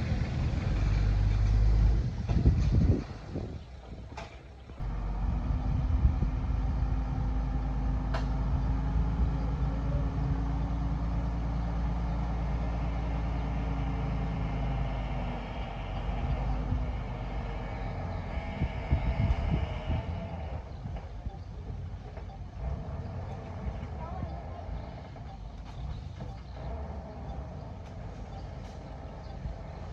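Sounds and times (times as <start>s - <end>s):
heavy diesel engine running: 0.0s - 29.9s.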